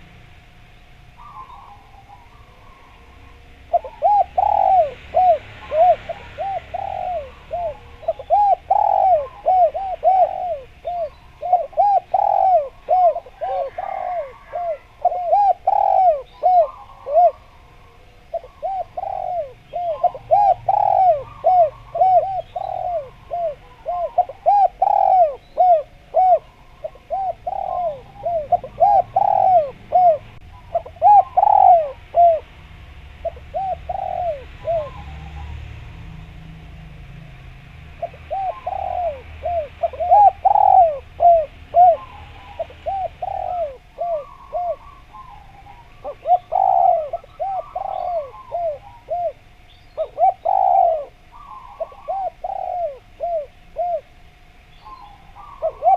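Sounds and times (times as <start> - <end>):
dove cooing: 0.0 - 36.2, 37.9 - 55.9.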